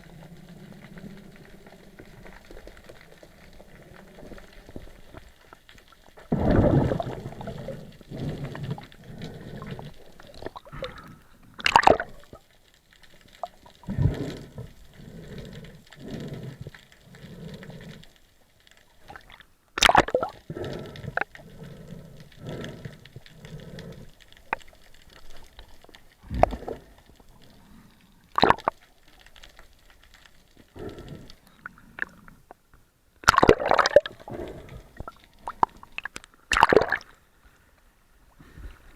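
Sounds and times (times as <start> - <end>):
water gurgling and sloshing: 0.0 - 38.9.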